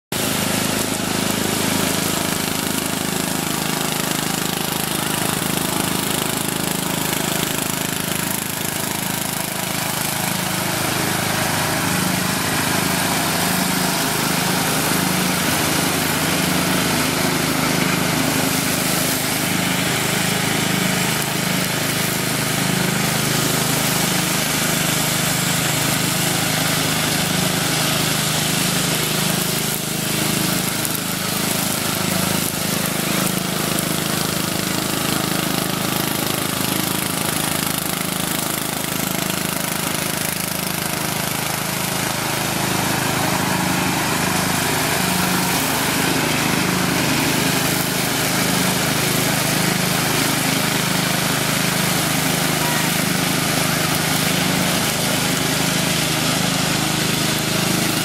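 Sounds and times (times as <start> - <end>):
riding lawn mower engine: 0.0 - 58.0.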